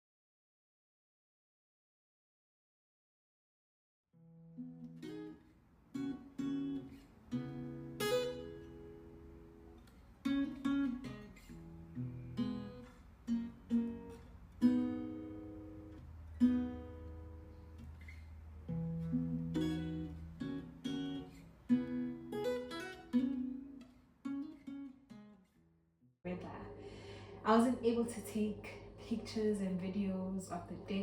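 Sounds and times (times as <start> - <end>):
acoustic guitar chords: 4.2 - 25.7, 26.3 - 31.0.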